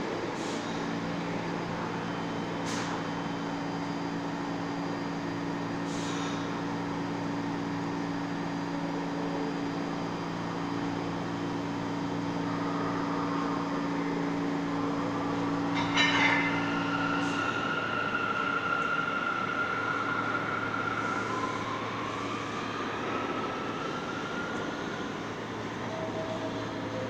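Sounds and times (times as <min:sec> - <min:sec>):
subway train idling hum: 0:00.0 - 0:27.0.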